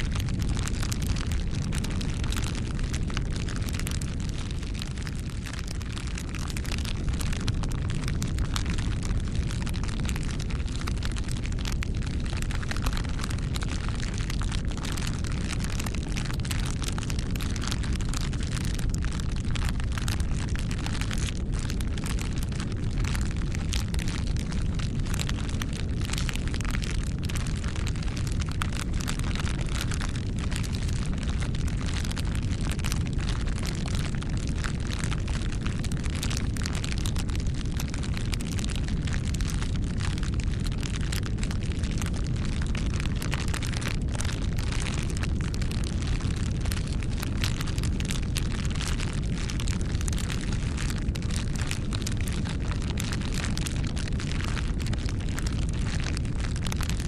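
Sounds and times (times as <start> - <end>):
bonfire crackling: 0.0 - 57.0.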